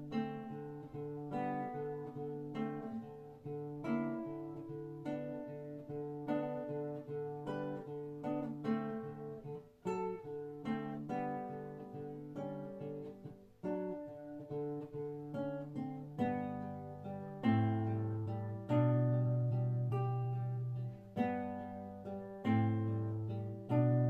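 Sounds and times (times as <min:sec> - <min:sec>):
nylon-string guitar fingerstyle: 0:00.0 - 0:24.0.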